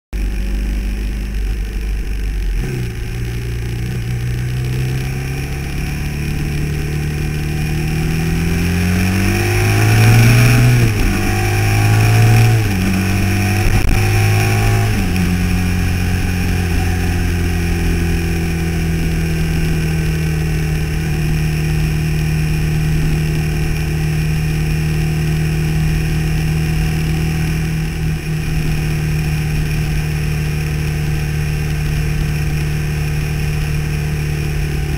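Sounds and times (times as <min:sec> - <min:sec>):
vehicle engine with gear changes: 0:00.2 - 0:34.9.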